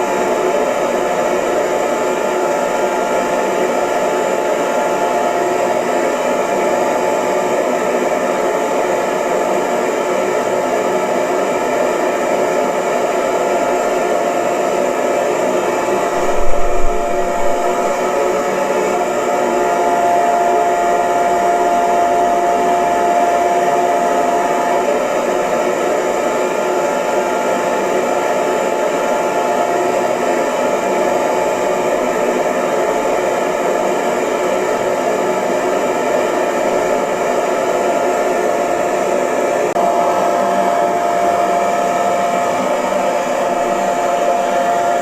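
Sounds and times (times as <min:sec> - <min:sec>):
hair dryer running: 0:00.0 - 0:45.0.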